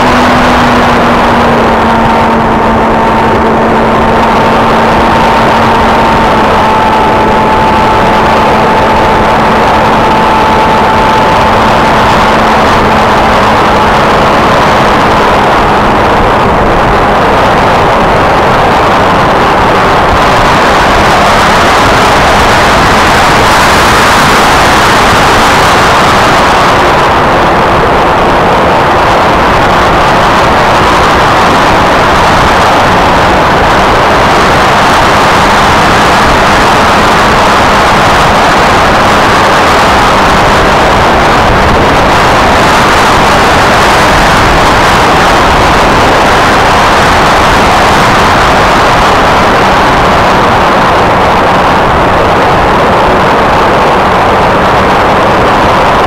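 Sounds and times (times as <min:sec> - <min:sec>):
electric motor and propeller buzz: 0:00.0 - 0:56.0
wind rush: 0:00.0 - 0:56.0.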